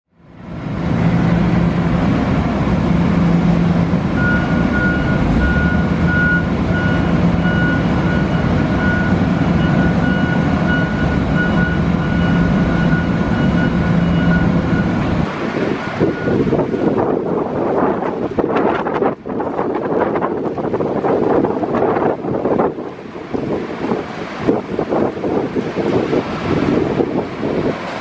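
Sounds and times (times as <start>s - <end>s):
diesel locomotive rumbling: 0.1s - 28.0s.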